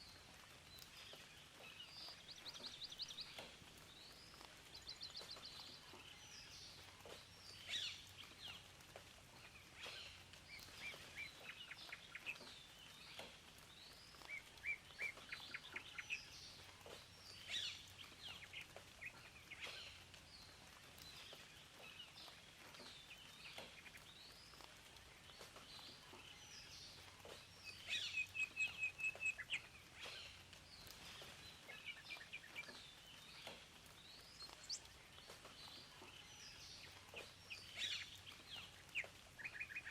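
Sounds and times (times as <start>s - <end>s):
faint steady hiss: 0.0s - 39.9s
songbirds singing and chirping: 0.0s - 39.9s.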